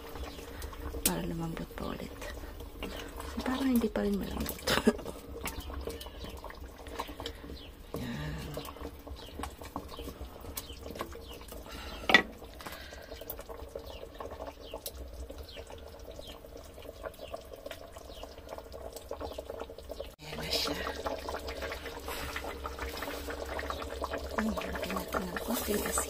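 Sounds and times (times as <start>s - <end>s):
stew simmering and bubbling: 0.0s - 26.0s.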